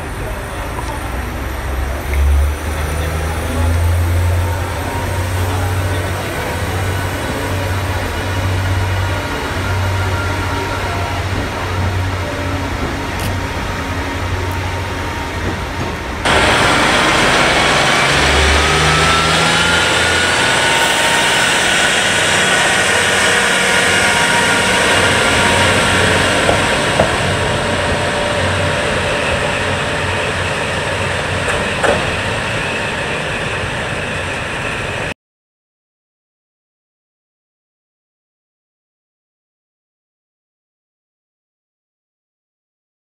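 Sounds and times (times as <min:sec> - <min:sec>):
diesel railcar engine rumbling: 0:00.0 - 0:35.2
faint engine whine: 0:00.0 - 0:35.2.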